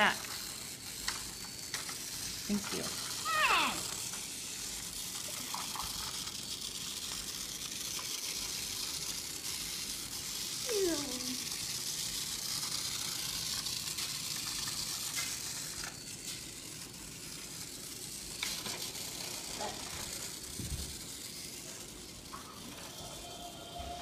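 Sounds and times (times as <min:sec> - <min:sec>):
toy car whirring: 0:00.0 - 0:24.0.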